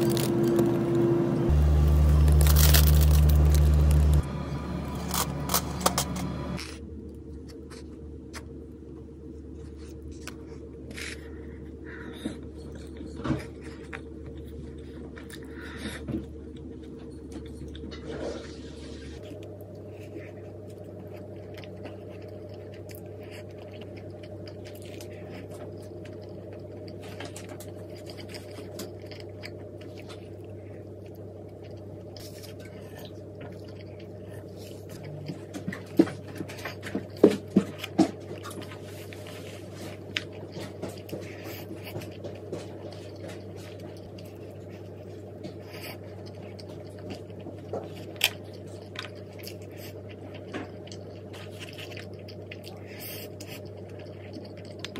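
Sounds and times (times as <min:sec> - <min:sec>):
low room hum: 0:00.0 - 0:54.9.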